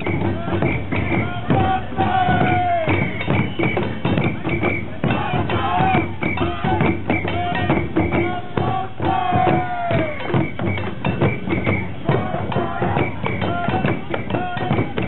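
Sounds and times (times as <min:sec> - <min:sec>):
fan drums beaten: 0:00.0 - 0:15.0.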